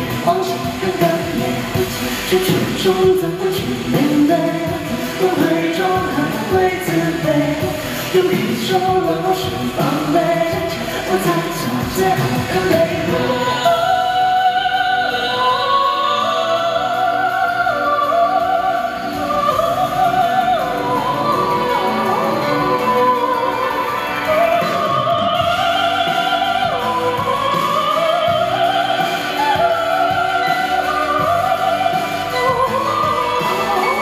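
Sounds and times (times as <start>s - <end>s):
backing track: 0.0s - 34.0s
man singing pop song: 0.0s - 34.0s
operatic wordless vocal: 0.0s - 34.0s.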